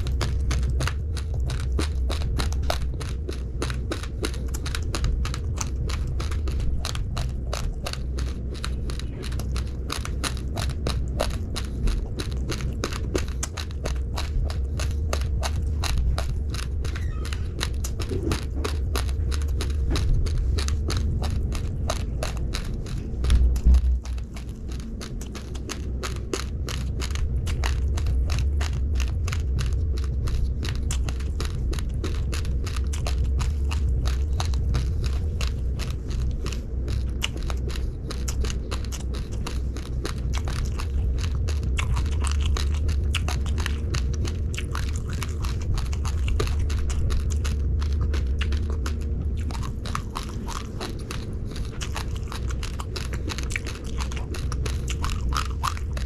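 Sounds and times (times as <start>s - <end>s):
chewing uncooked rice: 0.0s - 56.0s
low steady rumble: 0.0s - 56.0s.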